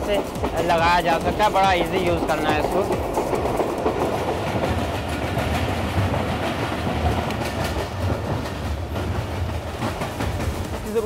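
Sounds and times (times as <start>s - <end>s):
light clicking of train wheels: 0.0s - 11.0s
train wheels rumbling on rails: 0.0s - 11.0s.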